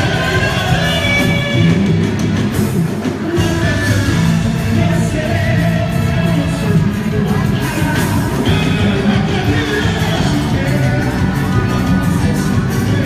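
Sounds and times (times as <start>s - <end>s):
amplified folk dance music with vocal: 0.0s - 13.0s.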